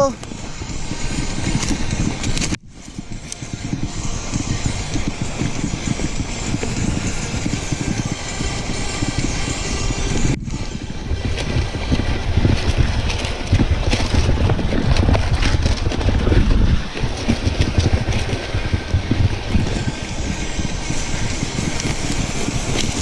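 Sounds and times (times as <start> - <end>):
low rumble of riding: 0.0 - 23.0
wind rushing over microphone: 0.0 - 23.0.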